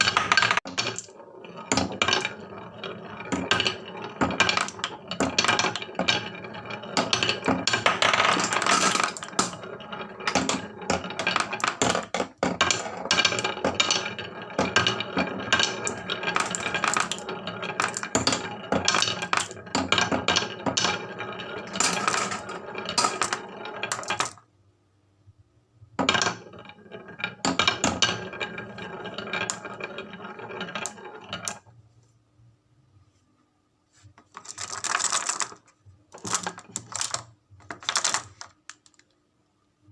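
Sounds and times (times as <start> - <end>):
marbles rolling on wooden run: 0.0 - 24.4, 26.0 - 31.7, 34.2 - 39.1.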